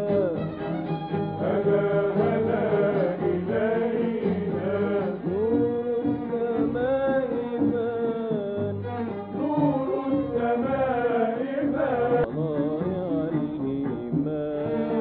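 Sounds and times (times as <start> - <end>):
man singing religious song: 0.0 - 0.5, 1.4 - 8.8, 9.4 - 15.0
sustained instrumental accompaniment: 0.0 - 15.0.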